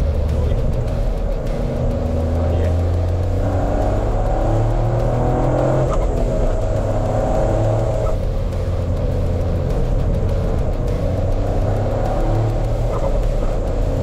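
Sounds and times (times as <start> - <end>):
turbo engine accelerating: 0.0 - 14.0.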